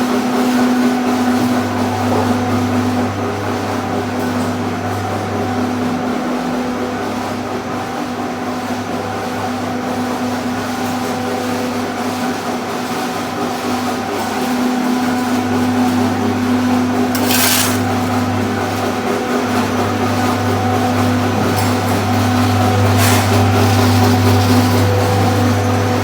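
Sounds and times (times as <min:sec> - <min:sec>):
machine mechanical hum: 0:00.0 - 0:26.0.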